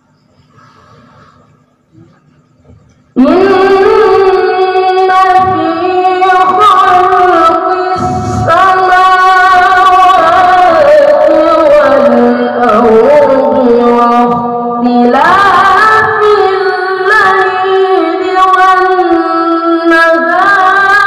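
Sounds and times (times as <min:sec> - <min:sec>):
boy chanting over loudspeakers: 0:00.7 - 0:21.0.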